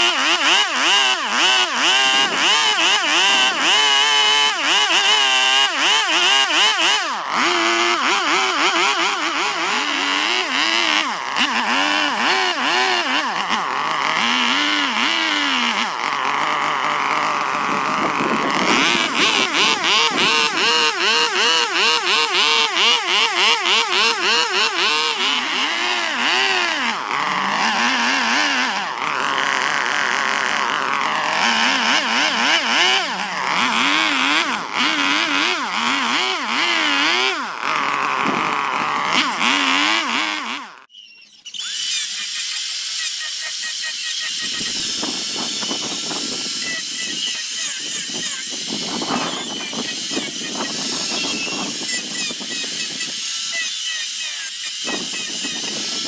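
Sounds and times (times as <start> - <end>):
handheld power tool whining: 0.0 - 56.0.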